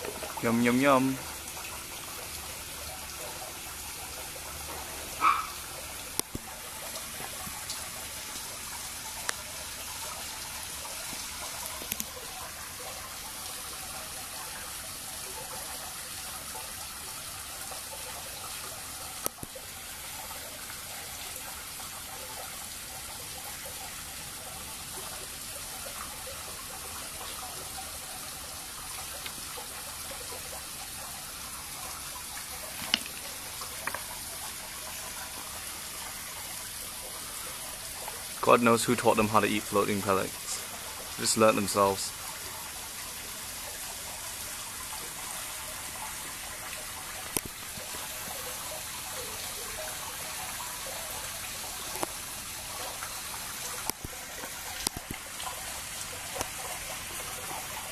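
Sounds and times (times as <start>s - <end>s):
water trickling into pond: 0.0s - 57.9s.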